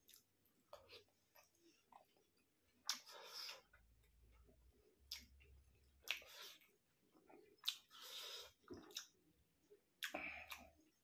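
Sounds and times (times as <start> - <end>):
chewing and mouth noise: 0.0 - 3.8, 5.0 - 9.3, 10.0 - 11.0.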